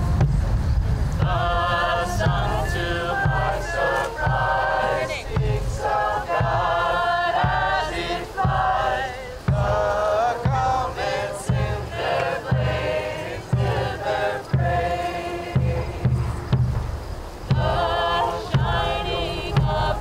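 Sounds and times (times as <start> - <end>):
bass drum beats: 0.0 - 20.0
group of voices singing: 1.1 - 20.0.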